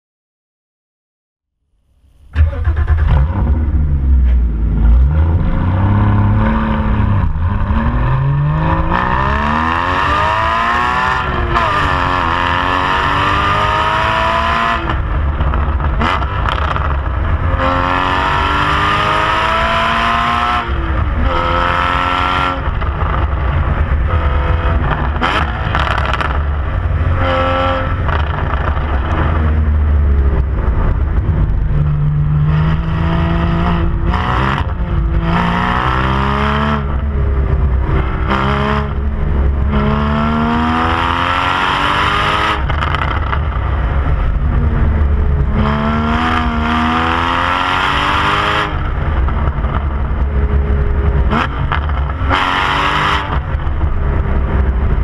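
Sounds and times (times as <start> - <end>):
car exhaust revving through gears: 2.3 - 55.0.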